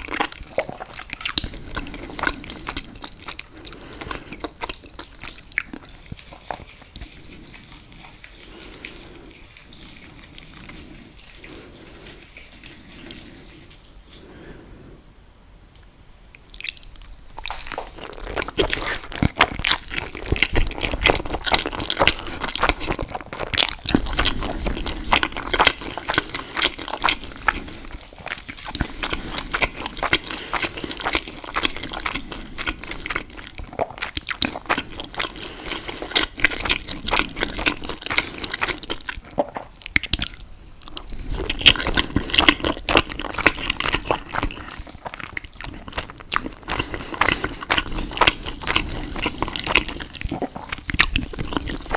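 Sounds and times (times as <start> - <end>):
wet chewing and smacking: 0.0 - 14.3, 16.3 - 51.9
soft chewing: 0.0 - 15.2, 15.8 - 51.9.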